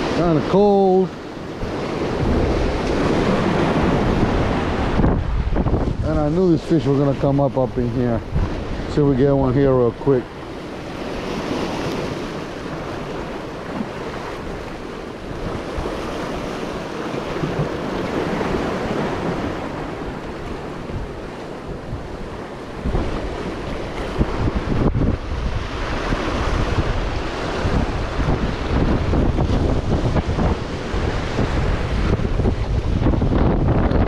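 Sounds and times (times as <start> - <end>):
waves breaking over rocks: 0.0 - 34.0
wind buffeting microphone: 0.0 - 34.0.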